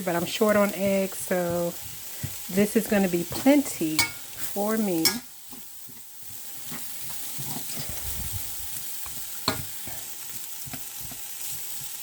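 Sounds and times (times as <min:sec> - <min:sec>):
rice sizzling in a hot pan: 0:00.0 - 0:12.0.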